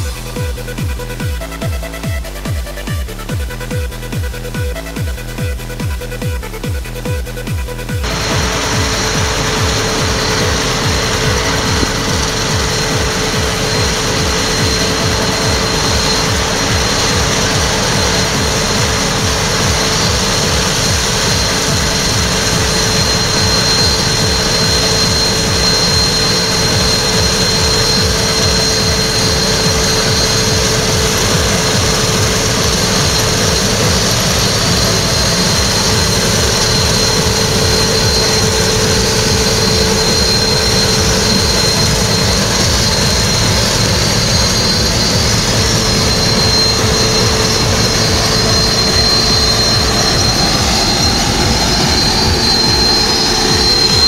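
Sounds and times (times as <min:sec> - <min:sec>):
combine harvester engine drone: 0:00.0 - 0:54.0
constant high whine: 0:00.0 - 0:54.0.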